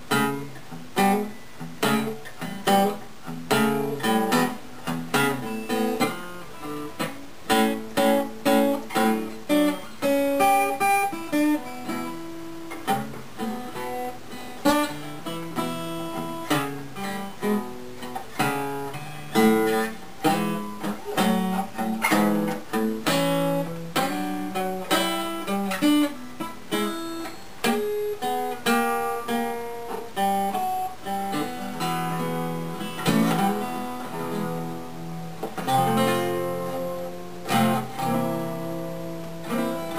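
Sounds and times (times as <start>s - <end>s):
acoustic guitar strumming and picking: 0.0s - 39.9s.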